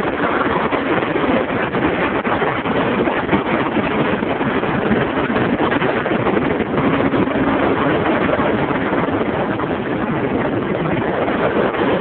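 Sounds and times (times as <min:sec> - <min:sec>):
wind noise: 0:00.0 - 0:12.0.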